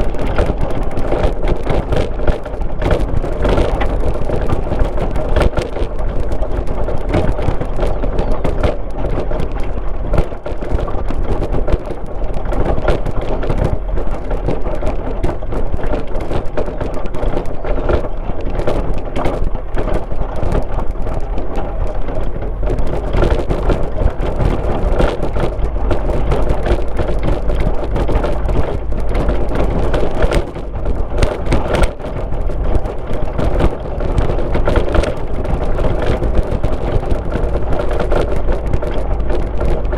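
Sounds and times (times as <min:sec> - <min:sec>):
car driving on road: 0:00.0 - 0:39.9
small knocks and rattles: 0:00.0 - 0:39.9.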